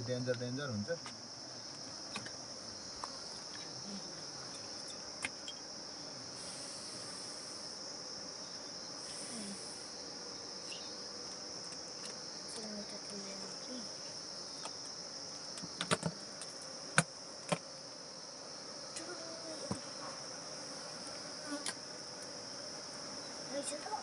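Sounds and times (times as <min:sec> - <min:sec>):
crickets chirring: 0:00.0 - 0:24.0
honeybees buzzing: 0:00.0 - 0:24.0.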